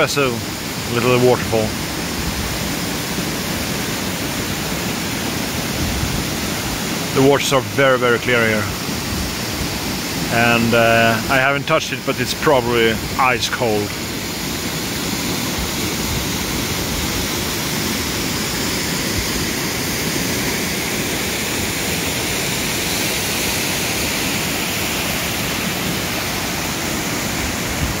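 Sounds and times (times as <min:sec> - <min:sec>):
stream cascading over boulders: 0:00.0 - 0:28.0
waterfall rushing into pool: 0:00.0 - 0:28.0.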